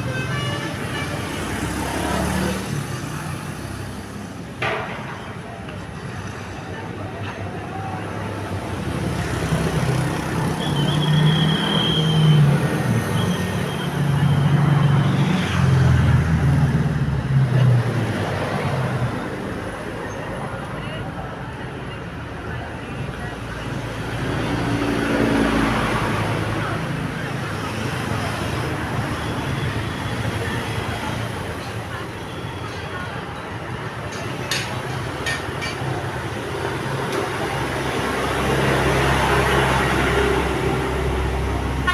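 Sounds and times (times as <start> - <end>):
passing traffic: 0.0 - 41.9.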